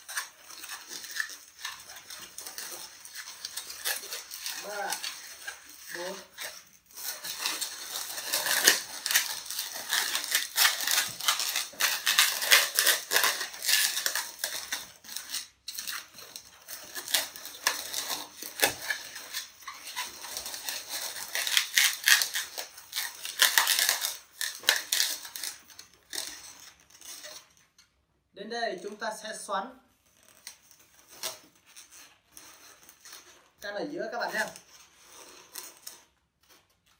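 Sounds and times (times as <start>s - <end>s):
balloons squeaking and rubbing: 0.0s - 27.8s, 28.4s - 36.9s.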